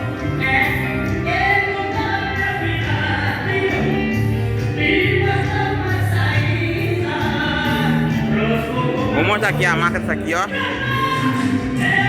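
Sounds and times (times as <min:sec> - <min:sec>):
steady bass line: 0:00.0 - 0:12.0
vocal music over loudspeakers: 0:00.0 - 0:12.0.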